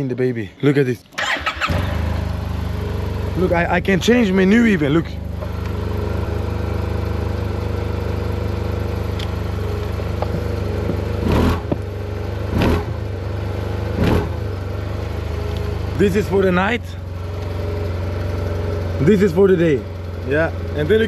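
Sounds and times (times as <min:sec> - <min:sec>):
motorcycle engine idling and revving: 0:01.2 - 0:21.0.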